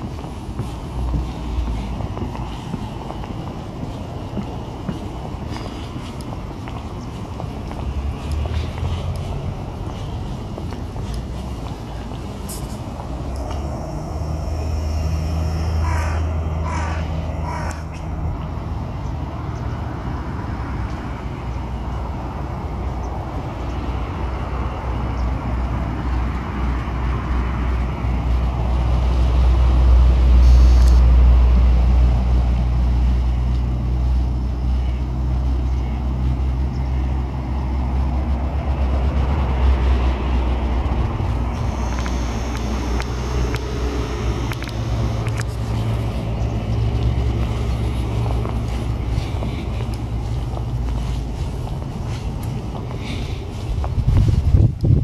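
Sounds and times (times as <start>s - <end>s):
road traffic rumble: 0.0s - 55.0s
vehicle passing by: 0.0s - 55.0s.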